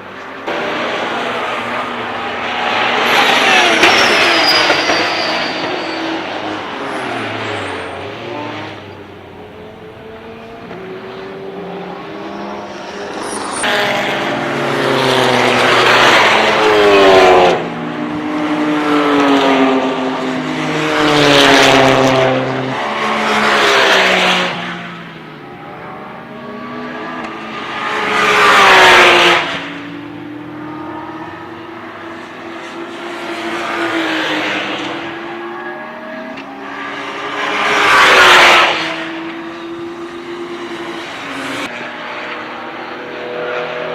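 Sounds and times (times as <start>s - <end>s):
race cars passing at speed: 0.0s - 43.9s.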